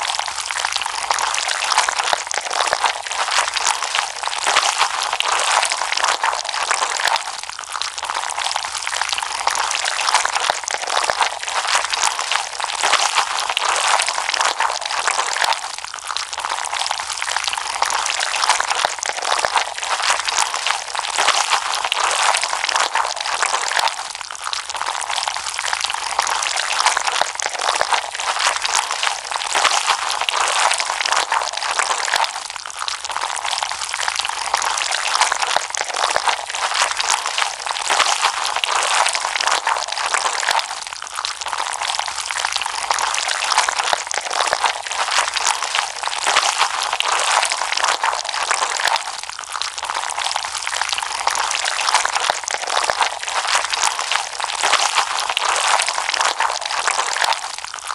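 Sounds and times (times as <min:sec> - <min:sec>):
slime squished by hand: 0:00.0 - 0:57.9.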